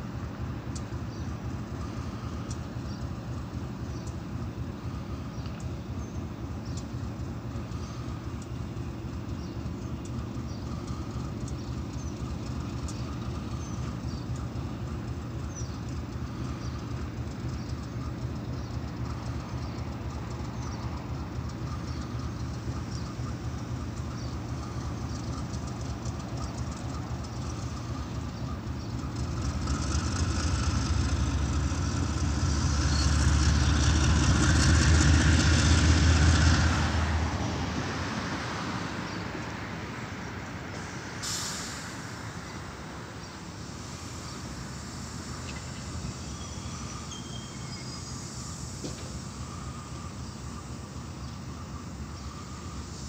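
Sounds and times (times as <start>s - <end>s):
locomotive engine idling: 0.0s - 53.0s.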